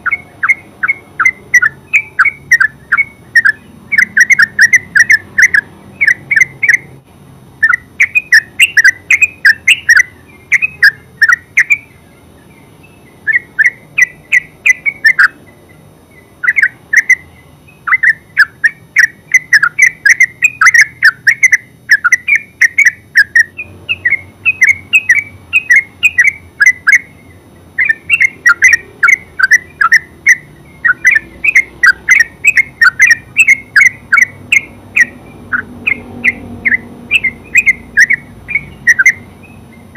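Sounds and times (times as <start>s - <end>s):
bulbul bubbling song: 0.0s - 7.0s, 7.6s - 39.9s.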